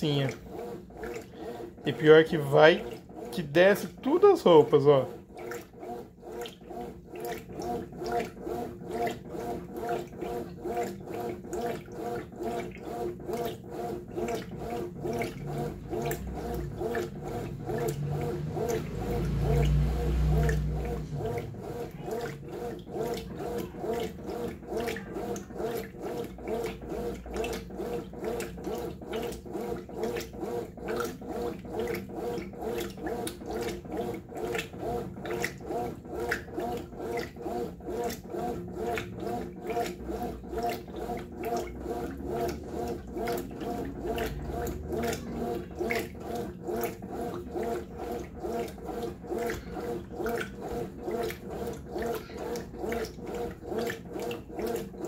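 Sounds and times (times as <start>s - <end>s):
washing machine agitating: 0.0s - 55.0s.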